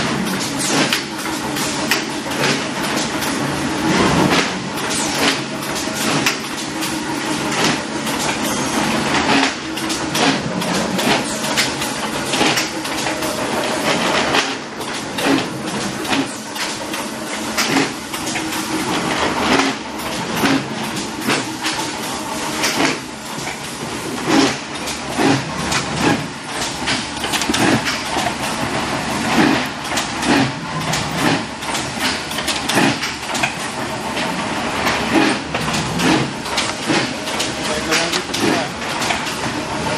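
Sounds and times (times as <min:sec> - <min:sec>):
box making machine running: 0:00.0 - 0:39.9
sharp mechanical knocks and clacks: 0:00.0 - 0:39.9.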